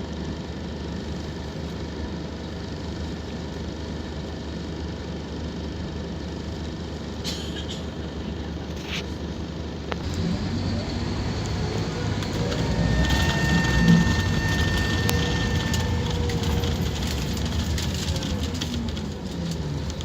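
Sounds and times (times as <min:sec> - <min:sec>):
bus diesel engine idling: 0:00.0 - 0:20.0
bus pulling away: 0:00.0 - 0:20.0.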